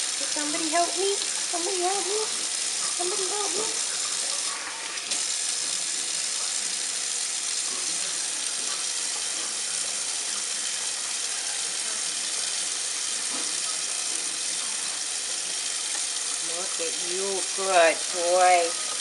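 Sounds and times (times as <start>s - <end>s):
faucet water running: 0.0s - 19.0s.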